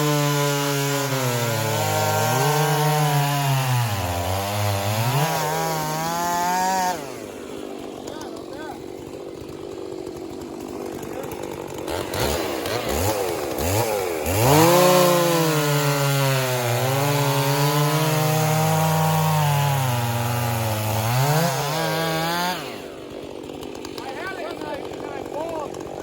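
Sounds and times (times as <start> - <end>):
chainsaw revving in a cut: 0.0 - 26.0.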